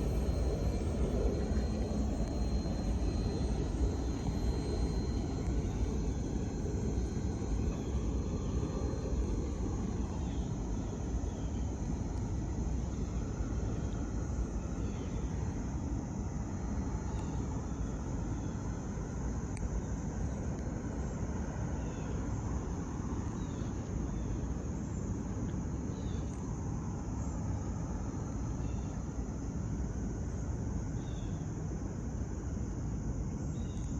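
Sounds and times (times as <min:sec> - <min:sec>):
low outdoor rumble: 0:00.0 - 0:33.9.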